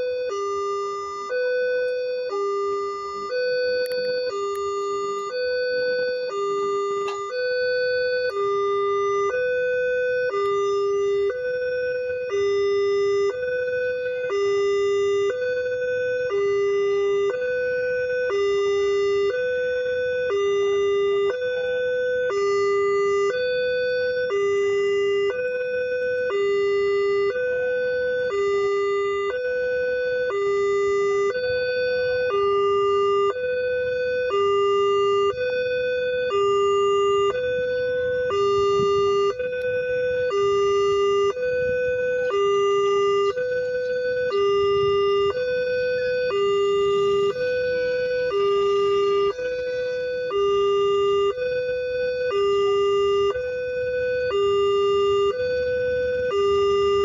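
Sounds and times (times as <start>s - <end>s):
level crossing two-tone alarm: 0.0s - 57.0s.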